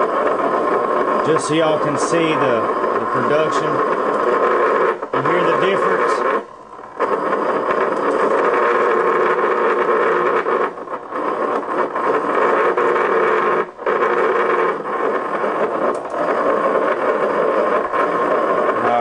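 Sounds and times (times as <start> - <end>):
transformer buzzing loudly: 0.0 - 19.0.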